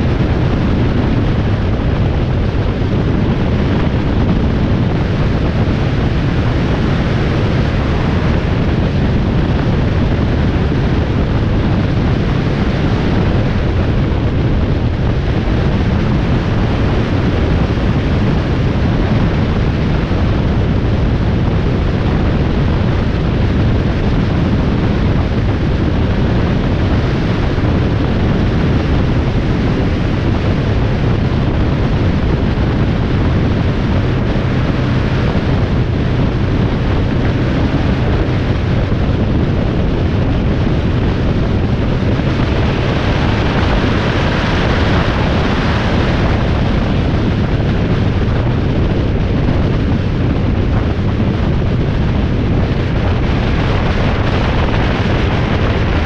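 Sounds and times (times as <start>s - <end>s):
vehicle road noise: 0.0s - 56.0s
wind buffeting microphone: 0.0s - 56.0s.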